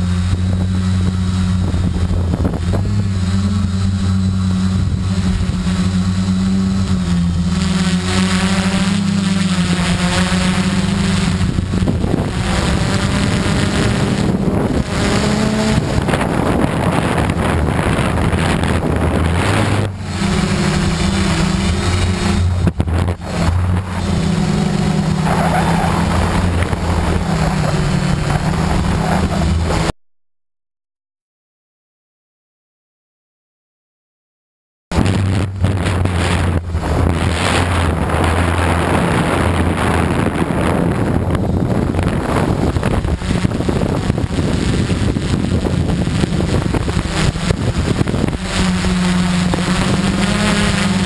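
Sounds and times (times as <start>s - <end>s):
quadcopter motors humming: 0.0s - 30.0s, 34.9s - 51.0s.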